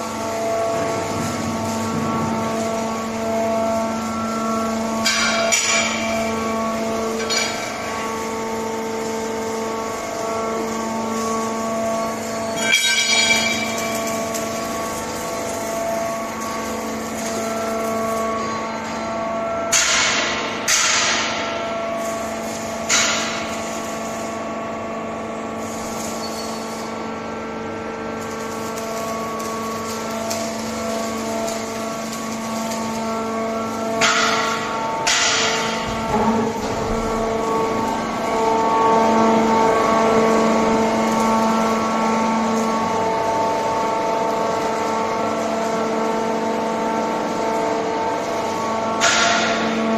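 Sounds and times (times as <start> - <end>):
workshop machinery humming: 0.0 - 49.9.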